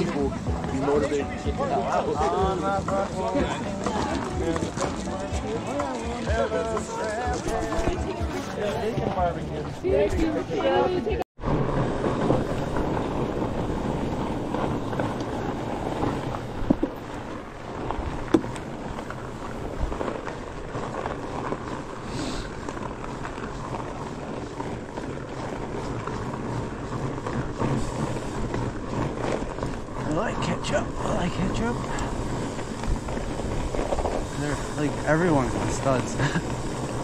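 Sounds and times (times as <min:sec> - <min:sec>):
bike tires rolling over icy snow: 0:00.0 - 0:37.0
wind noise on microphone: 0:07.2 - 0:37.0.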